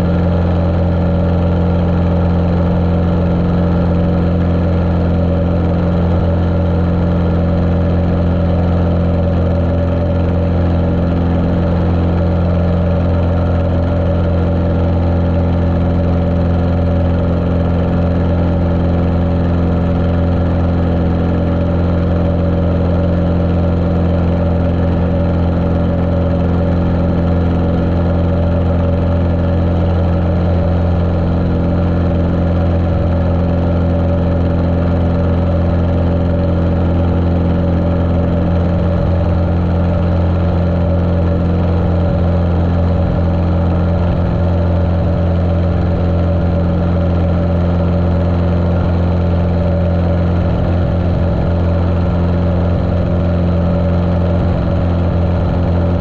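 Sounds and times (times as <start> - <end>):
muffled aircraft engine and propeller: 0.0 - 56.0.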